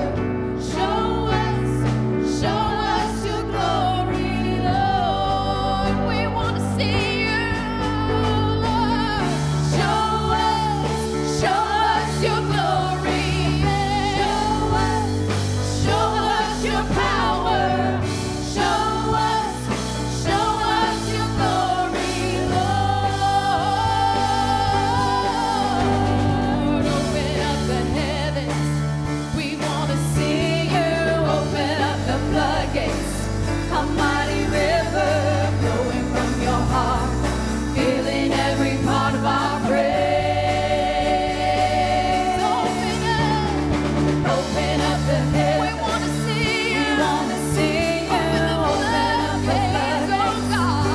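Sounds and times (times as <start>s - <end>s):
sustained keyboard chords: 0.0s - 50.9s
voices singing: 0.0s - 50.9s.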